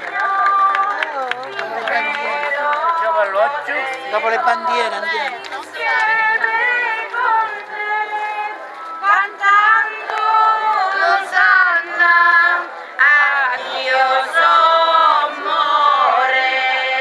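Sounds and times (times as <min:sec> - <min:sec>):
women singing a hymn: 0:00.0 - 0:17.0.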